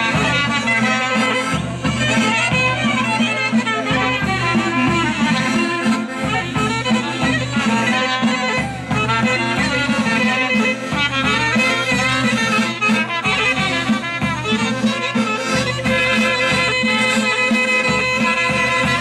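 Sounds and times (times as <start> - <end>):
folk dance music with violin: 0.0 - 19.0.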